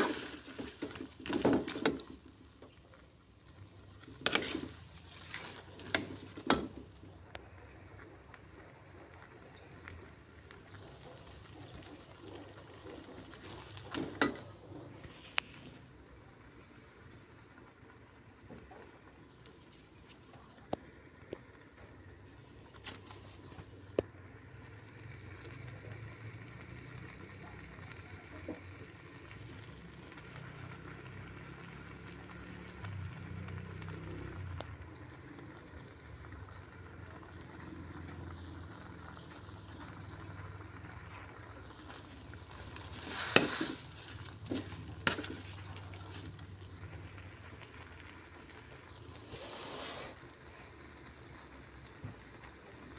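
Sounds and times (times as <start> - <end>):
low steady rumble: 2.0 - 49.3.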